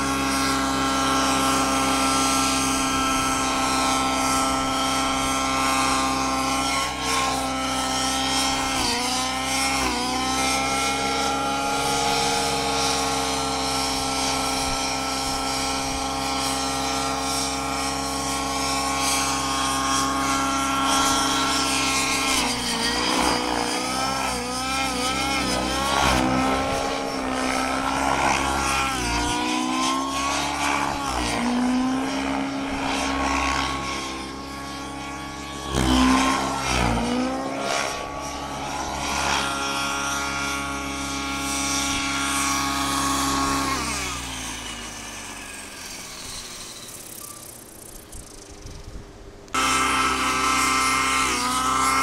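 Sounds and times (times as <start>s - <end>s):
model helicopter whine: 0.0s - 52.0s
rotor blade rush: 0.0s - 52.0s.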